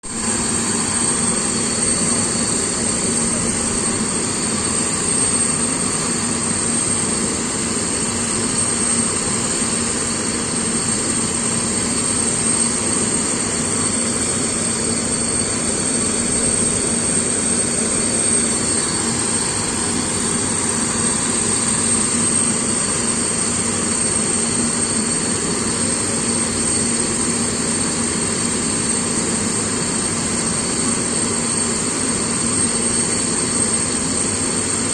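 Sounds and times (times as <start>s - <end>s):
aircraft turbines running: 0.0s - 34.9s.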